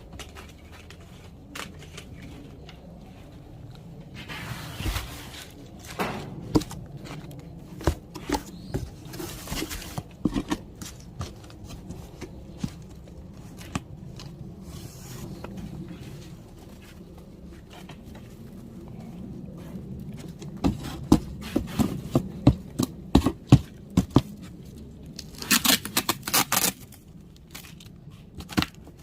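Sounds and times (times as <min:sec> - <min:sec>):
rustling and scraping: 0:00.0 - 0:29.0.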